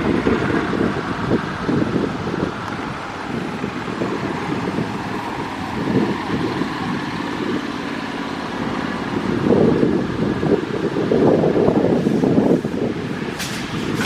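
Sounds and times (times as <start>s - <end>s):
vehicle engine rumbling unevenly: 0.0s - 14.0s.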